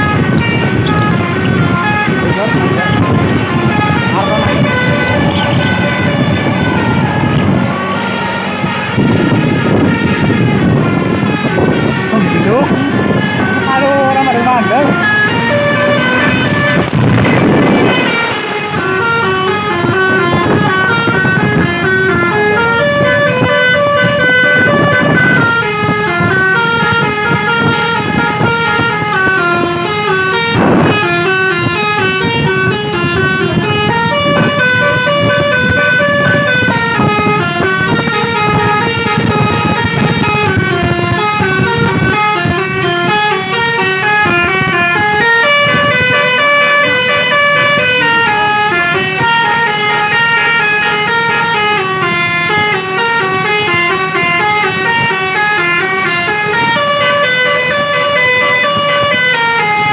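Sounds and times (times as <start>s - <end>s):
multi-tone bus horn tune: 0.0s - 59.9s.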